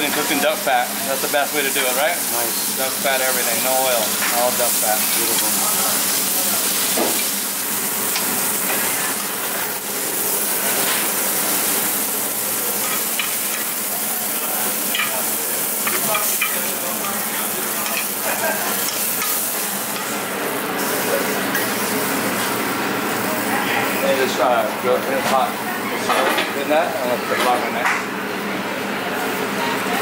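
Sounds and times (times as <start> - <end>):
meat sizzling in a frying pan: 0.0 - 28.5.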